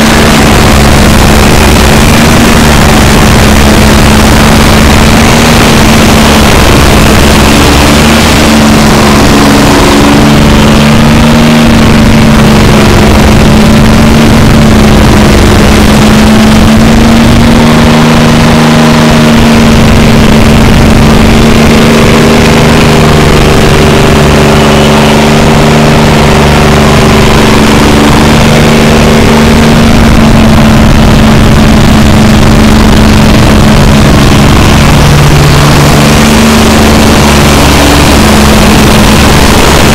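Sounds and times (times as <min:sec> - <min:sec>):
stump grinder engine running: 0:00.0 - 0:39.9.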